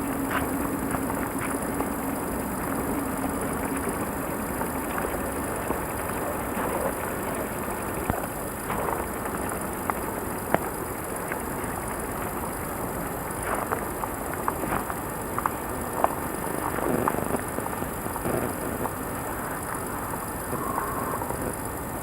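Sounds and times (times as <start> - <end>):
camcorder hiss: 0.0 - 22.0.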